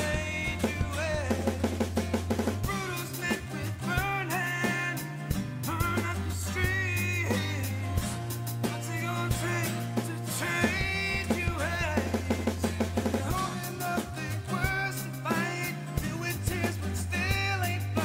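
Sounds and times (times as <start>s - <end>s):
bass line: 0.0s - 18.0s
drum kit: 0.0s - 18.0s
rock song: 0.0s - 18.0s.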